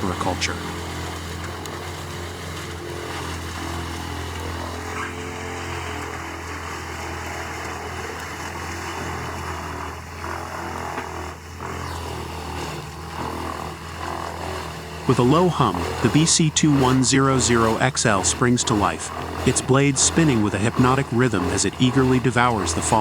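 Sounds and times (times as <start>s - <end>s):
wood chipper running: 0.0s - 23.0s.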